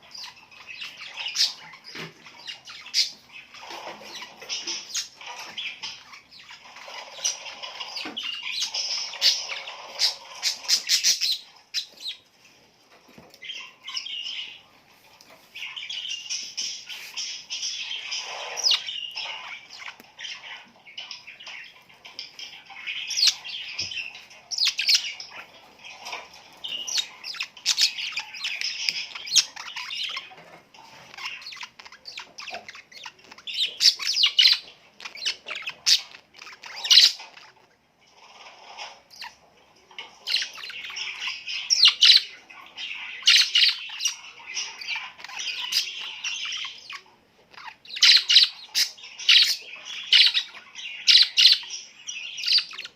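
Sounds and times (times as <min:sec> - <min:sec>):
small birds chirping and squawking: 0:00.0 - 0:52.9.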